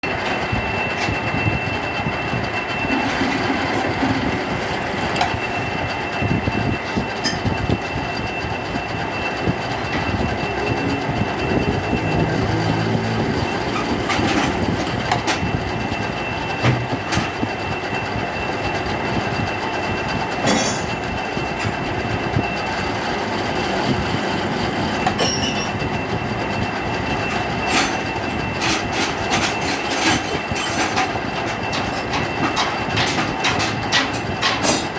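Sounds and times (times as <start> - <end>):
metal lathe whining: 0.0 - 34.9.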